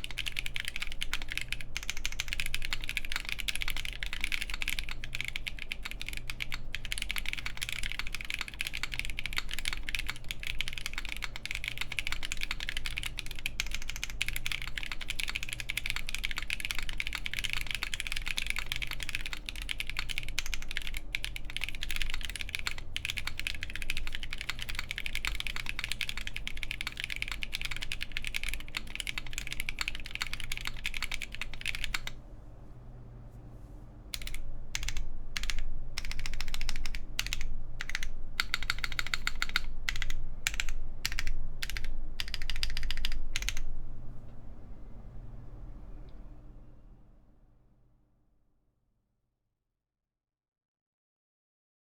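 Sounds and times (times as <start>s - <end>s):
mechanical keyboard typing: 0.0s - 32.2s, 34.2s - 43.7s.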